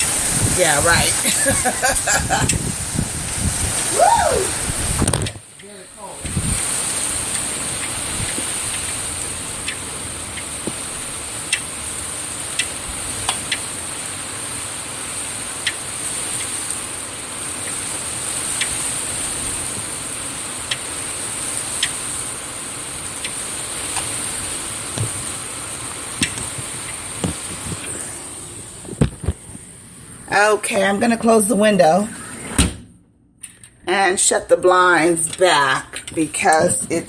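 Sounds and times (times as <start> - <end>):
wind and rain rushing: 0.0 - 32.8.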